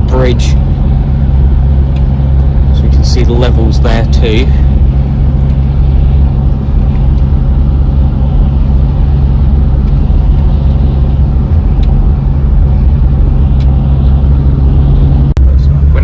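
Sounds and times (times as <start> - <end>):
car engine and tyre drone: 0.0 - 16.0.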